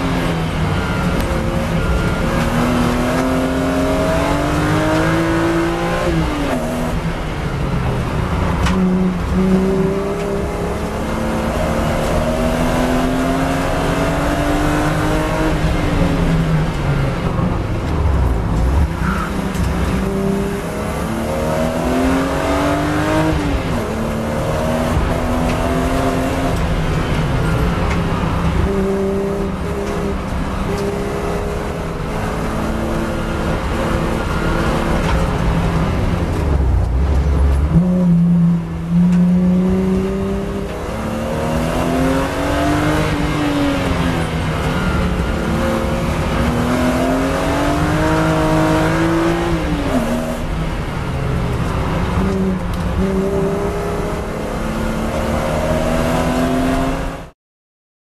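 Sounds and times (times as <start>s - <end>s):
car engine revving: 0.0s - 57.3s.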